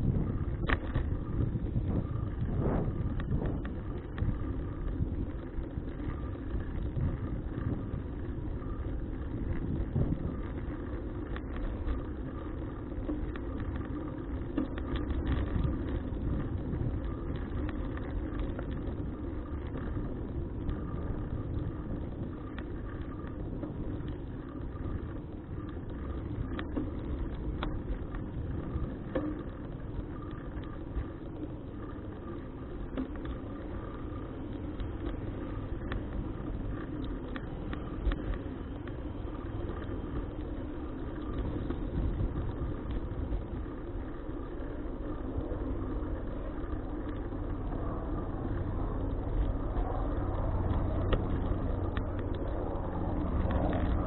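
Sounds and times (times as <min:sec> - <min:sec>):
bicycle road noise: 0:00.0 - 0:54.0
faint steady hum: 0:00.0 - 0:54.0
wind rumble: 0:00.0 - 0:54.0.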